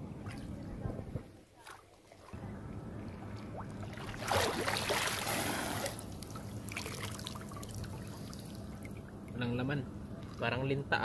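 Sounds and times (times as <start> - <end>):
steady low hum: 0.0 - 1.6, 2.3 - 11.0
seawater splashing: 0.1 - 9.4.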